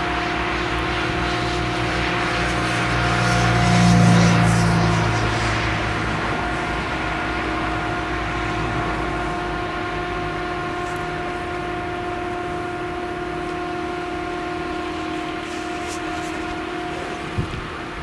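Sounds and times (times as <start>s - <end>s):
forage harvester engine droning: 0.0s - 18.0s
tractor engines: 0.0s - 18.0s.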